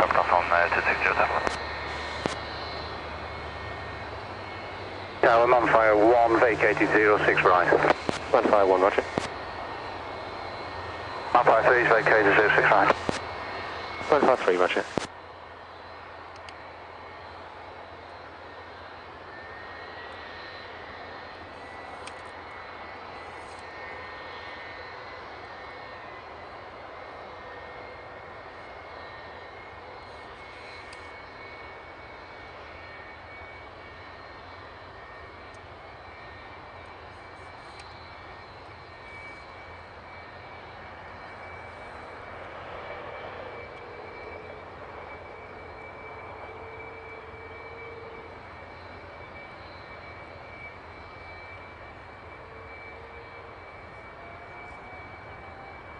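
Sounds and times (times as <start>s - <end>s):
jet engine idling with whine: 0.0s - 55.9s.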